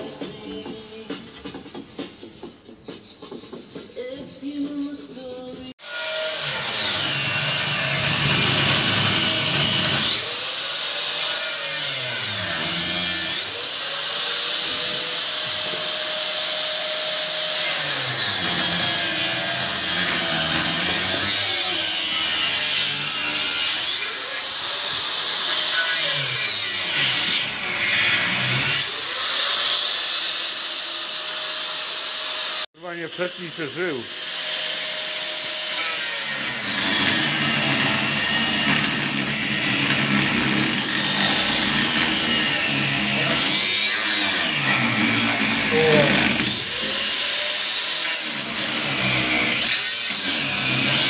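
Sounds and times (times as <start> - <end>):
angle grinder cutting steel: 4.9 - 51.0.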